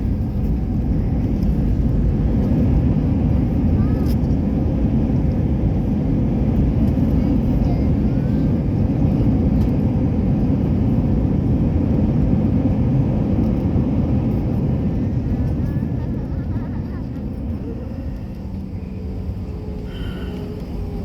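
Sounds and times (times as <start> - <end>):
jet airliner cabin rumble: 0.0 - 21.0.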